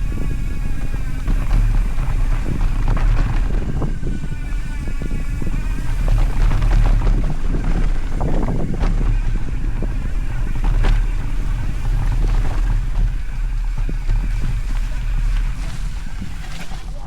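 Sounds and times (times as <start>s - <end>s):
bike clicks and rattles: 0.0s - 17.0s
bike rolling on dirt trail: 0.0s - 17.0s
wind buffeting microphone: 0.0s - 17.0s.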